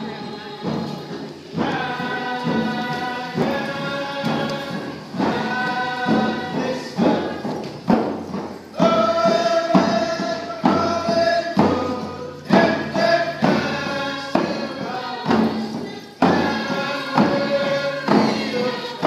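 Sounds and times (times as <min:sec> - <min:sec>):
frame hand drums beating: 0:00.0 - 0:19.0
group of voices singing: 0:00.0 - 0:19.0.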